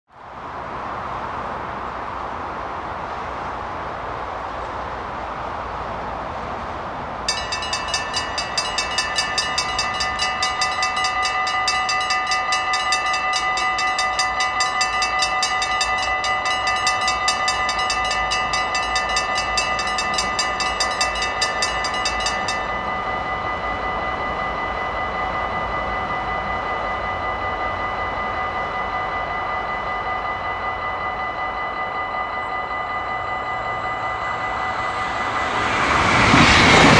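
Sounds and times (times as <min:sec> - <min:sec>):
level crossing warning bells: 0:07.2 - 0:36.9
steady high tones: 0:07.3 - 0:36.9.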